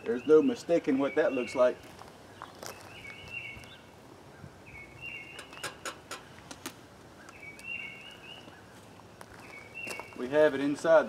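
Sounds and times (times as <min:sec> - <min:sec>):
bird chirping: 0:00.0 - 0:06.5, 0:07.1 - 0:11.0.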